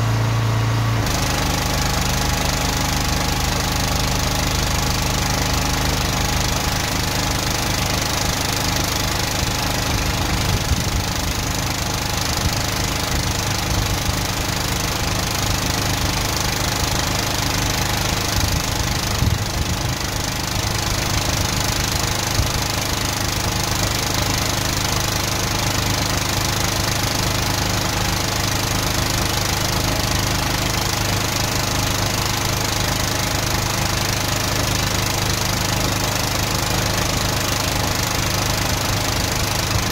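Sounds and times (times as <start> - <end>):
engine and pump humming: 0.0 - 39.9
high-pressure water hose jetting: 1.0 - 39.9.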